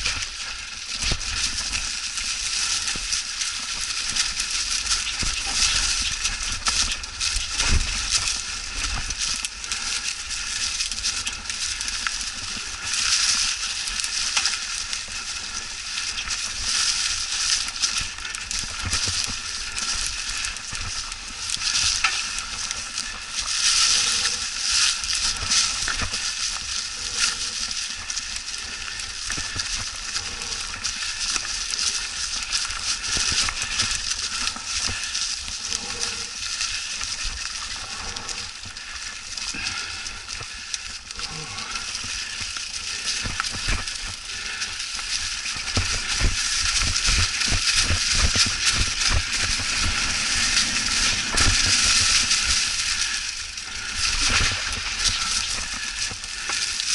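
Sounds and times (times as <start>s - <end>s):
bike tyres crunching dry leaves: 0.0s - 56.9s.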